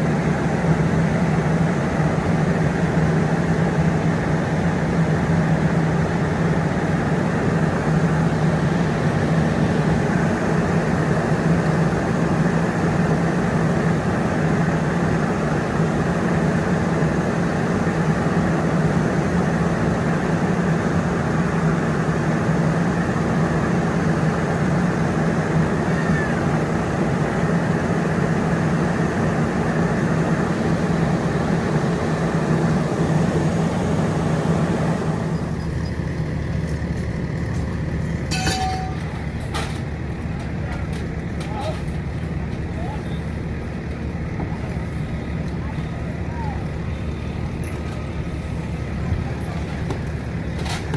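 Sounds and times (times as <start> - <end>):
diesel engine droning: 0.0 - 50.9.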